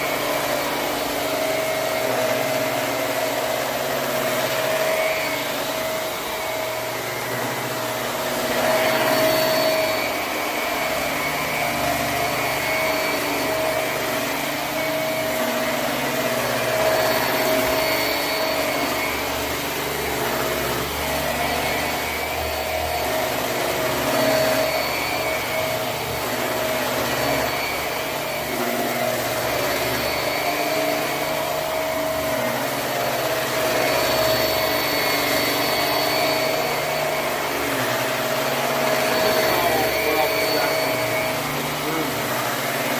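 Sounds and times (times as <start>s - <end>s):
upright vacuum cleaner on carpet: 0.0s - 42.9s.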